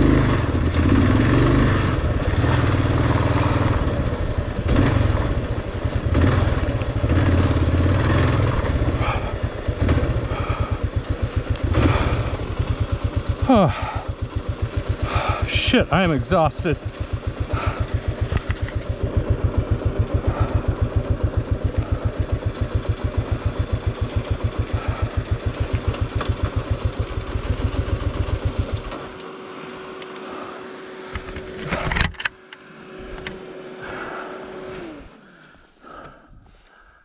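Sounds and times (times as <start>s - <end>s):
motorcycle engine running: 0.0s - 36.2s
steady whine: 1.6s - 36.4s.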